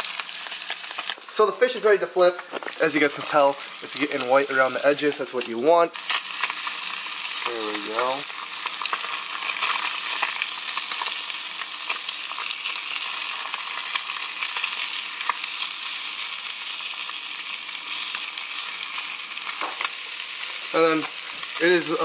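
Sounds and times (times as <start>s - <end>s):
fish frying in butter: 0.0s - 22.0s.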